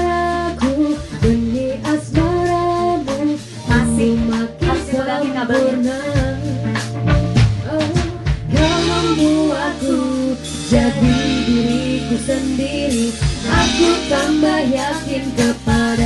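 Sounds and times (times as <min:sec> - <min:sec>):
backing music with steady beat: 0:00.0 - 0:16.0
woman singing into a microphone: 0:00.0 - 0:16.0.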